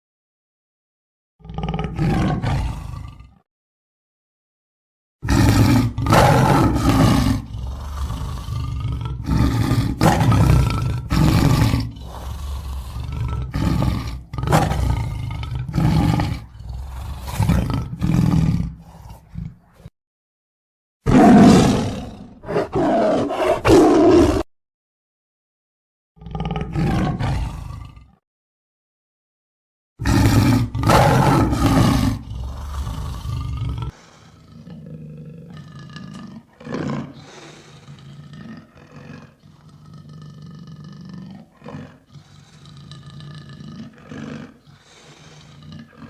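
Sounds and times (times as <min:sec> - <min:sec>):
lion roaring: 0:01.4 - 0:03.4, 0:05.2 - 0:19.9, 0:21.1 - 0:24.5, 0:26.2 - 0:28.2, 0:30.0 - 0:46.0.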